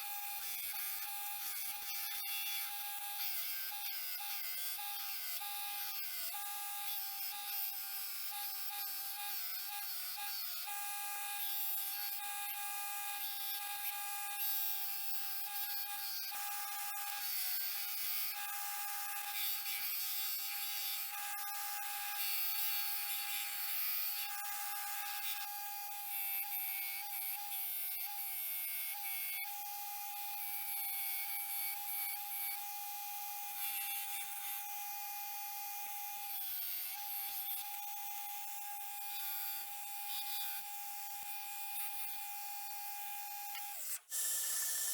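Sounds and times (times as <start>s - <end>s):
electric grinder whining: 0.0s - 44.9s.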